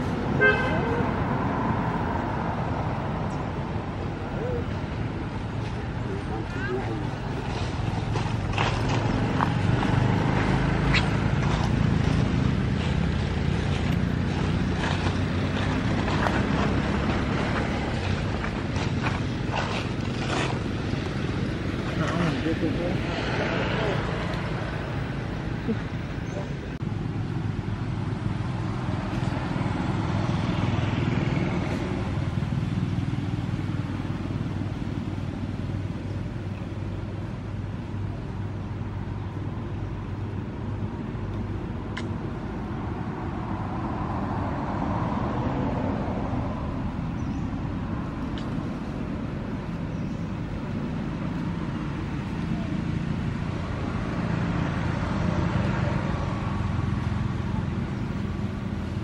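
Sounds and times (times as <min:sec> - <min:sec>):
engine running low hum: 0:00.0 - 0:59.0.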